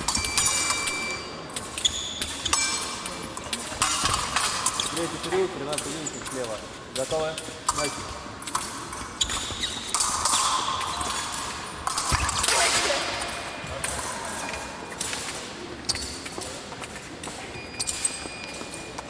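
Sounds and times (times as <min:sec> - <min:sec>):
fencing blades clicking: 0:00.1 - 0:16.6.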